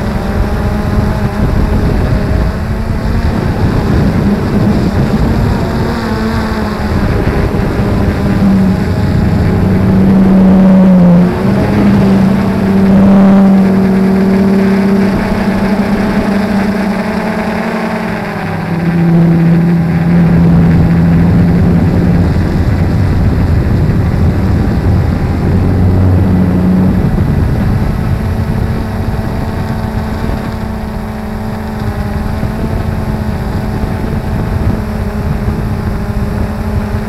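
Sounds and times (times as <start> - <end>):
drone motors humming: 0.0 - 37.0
wind rush: 0.0 - 37.0.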